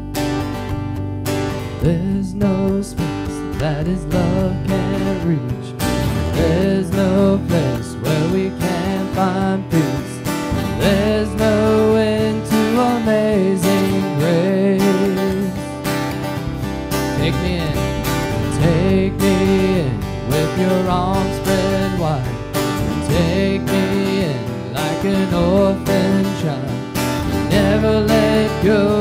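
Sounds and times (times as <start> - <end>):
acoustic guitar strumming: 0.0 - 29.0
person singing: 1.7 - 16.1, 17.0 - 29.0.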